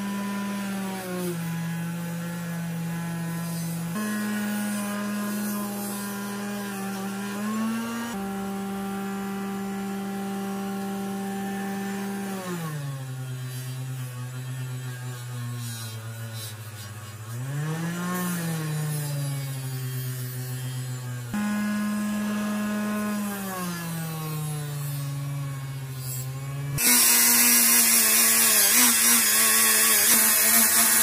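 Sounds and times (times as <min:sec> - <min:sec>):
bench grinder whining: 0:00.0 - 0:31.0.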